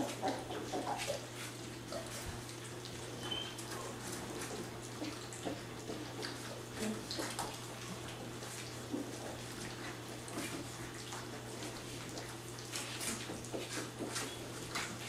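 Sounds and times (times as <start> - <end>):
puppies lapping and slurping: 0.0 - 15.0.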